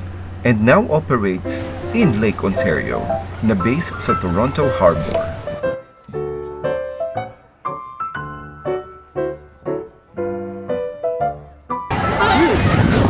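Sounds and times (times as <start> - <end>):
piano melody: 1.2 - 13.0.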